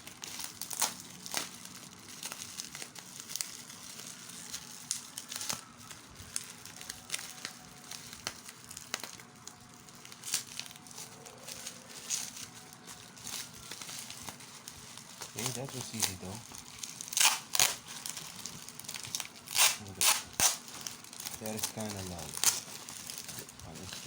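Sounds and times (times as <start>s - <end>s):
bubble wrap crackling: 0.0s - 24.0s.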